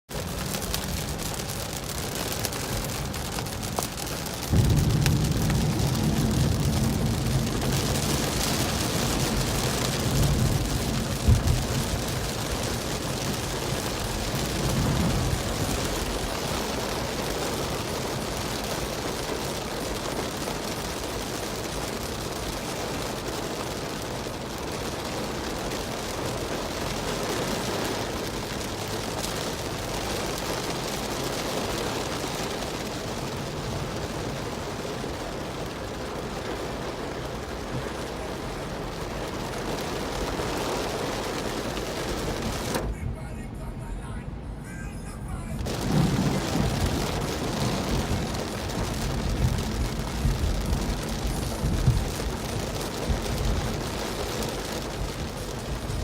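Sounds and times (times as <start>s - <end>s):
heavy rain on a car: 0.1s - 56.0s
road and tyre noise: 0.1s - 56.0s.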